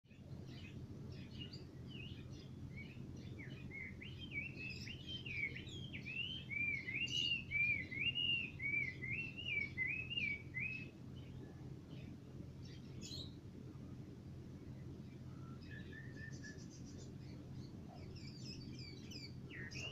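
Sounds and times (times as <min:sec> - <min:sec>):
bird singing: 0:00.1 - 0:19.9
low hum: 0:00.1 - 0:19.9.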